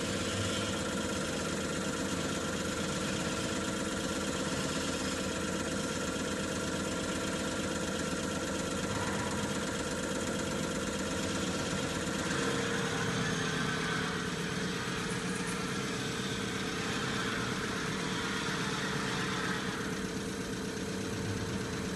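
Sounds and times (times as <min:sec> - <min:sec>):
pump running steadily: 0:00.0 - 0:21.9
steady whine: 0:00.0 - 0:21.9.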